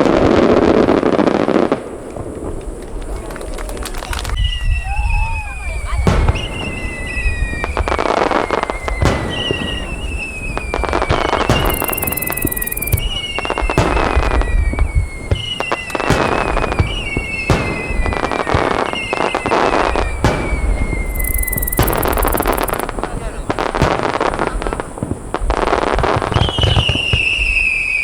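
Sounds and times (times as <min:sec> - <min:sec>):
crackling firework stars: 0:00.0 - 0:28.0
firework bangs: 0:00.0 - 0:28.0
whistling firework shells: 0:00.0 - 0:28.0.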